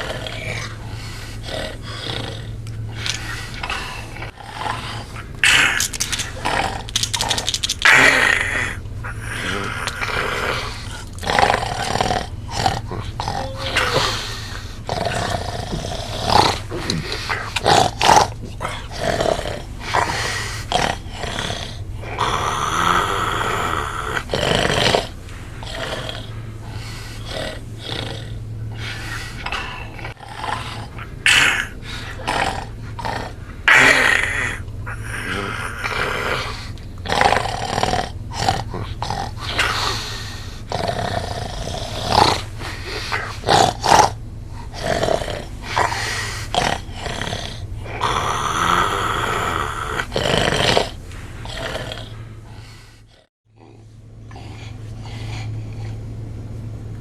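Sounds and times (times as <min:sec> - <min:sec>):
man snoring loudly: 0:00.0 - 0:53.3
steady low hum: 0:00.0 - 0:57.0.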